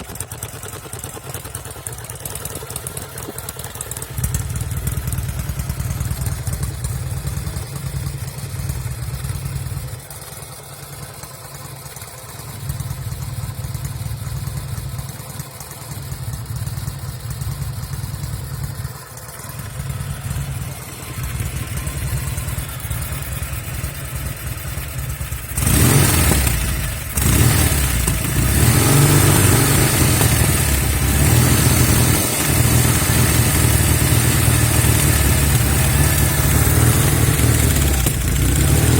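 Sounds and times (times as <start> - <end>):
engine misfires: 0.0 - 38.9
motorcycle engine idling: 0.0 - 38.9.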